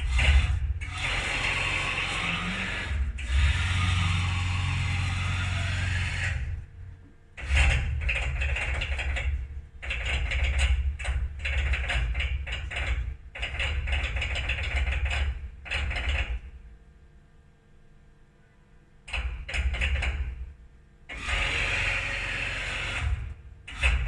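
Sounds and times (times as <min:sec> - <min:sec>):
machine axis abnormal mechanical noise: 0:00.0 - 0:16.6, 0:19.1 - 0:24.0.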